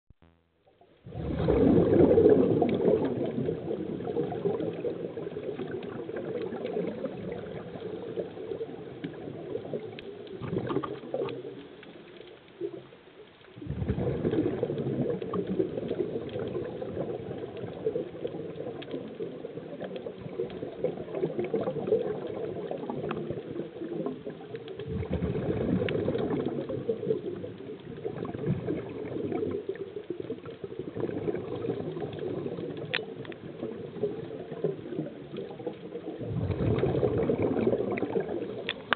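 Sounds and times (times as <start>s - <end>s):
underwater bubbling: 0.2s - 38.9s.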